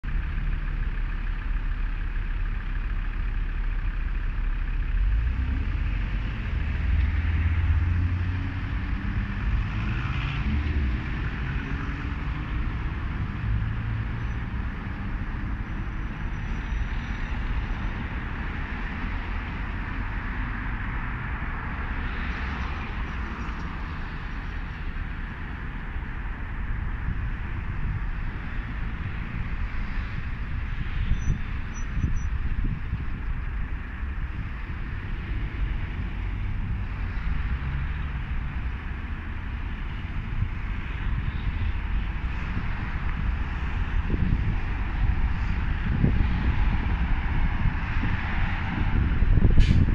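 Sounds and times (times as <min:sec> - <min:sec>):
vehicle engine rumble: 0:00.0 - 0:49.9.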